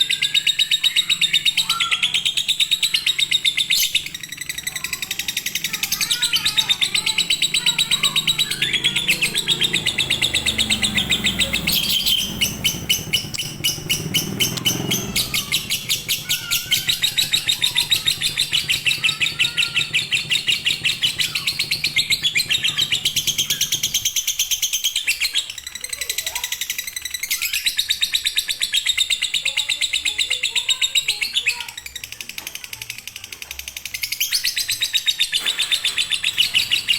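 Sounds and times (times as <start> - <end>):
lovebird rapid chirping: 0.0 - 36.9.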